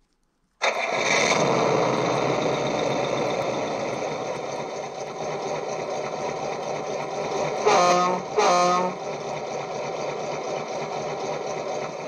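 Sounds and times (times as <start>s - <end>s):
simulated truck engine idling: 0.6s - 12.0s.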